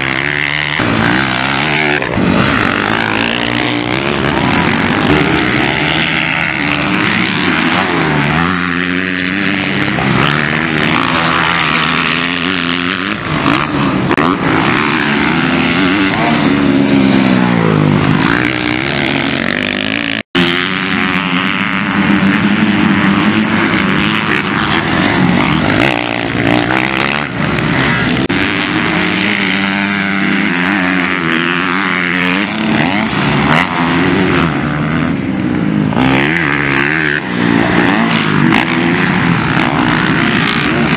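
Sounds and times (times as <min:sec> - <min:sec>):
motocross bikes revving: 0:00.0 - 0:40.9.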